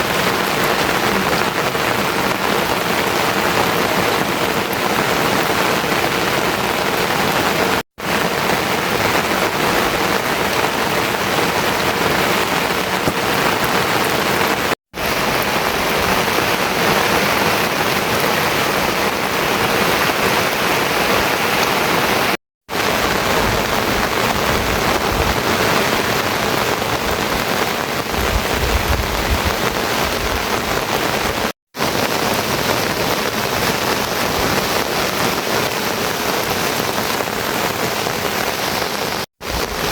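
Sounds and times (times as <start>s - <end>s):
loud rain splashing: 0.0s - 39.9s.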